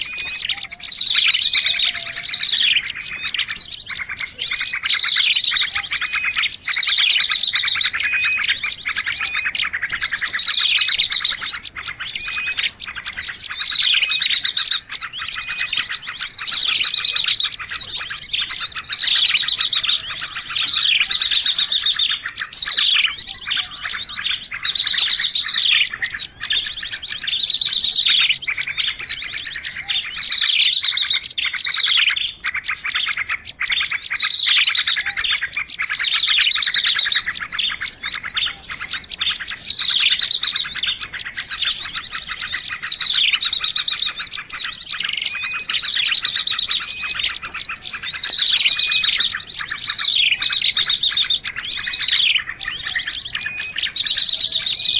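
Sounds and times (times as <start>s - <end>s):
songbirds trilling and chirping: 0.0s - 54.9s.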